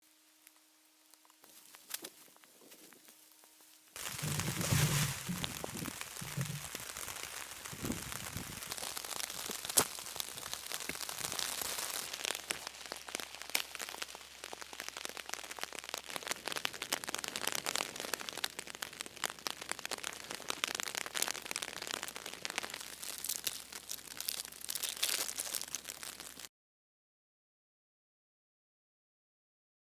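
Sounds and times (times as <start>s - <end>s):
rain falling on a tarp: 0.1s - 26.5s.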